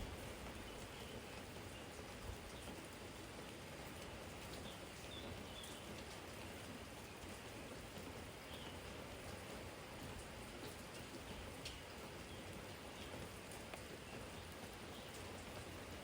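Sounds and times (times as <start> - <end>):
soft rain: 0.0 - 16.0.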